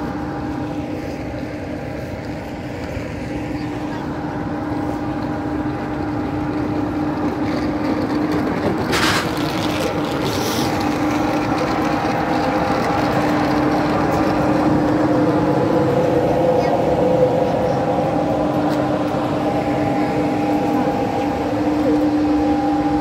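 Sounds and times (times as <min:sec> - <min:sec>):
train cooling blowers droning: 0:00.0 - 0:23.0.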